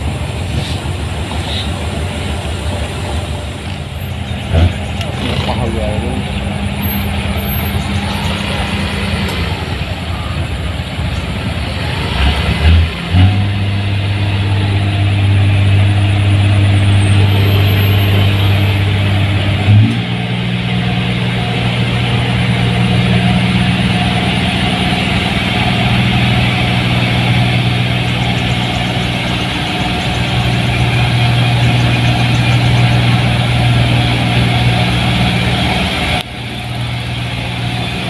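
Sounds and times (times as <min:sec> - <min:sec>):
combine harvester diesel engine drone: 0:00.0 - 0:38.0.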